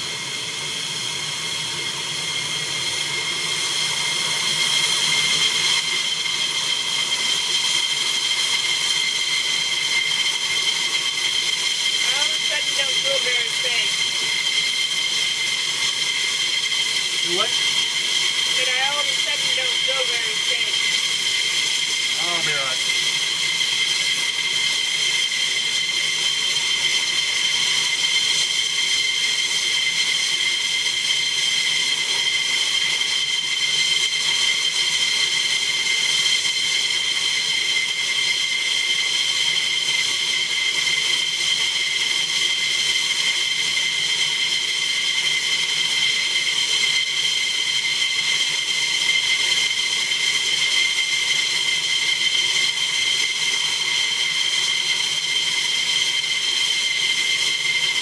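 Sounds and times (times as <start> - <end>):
jet engines idling whine: 0.0 - 58.0.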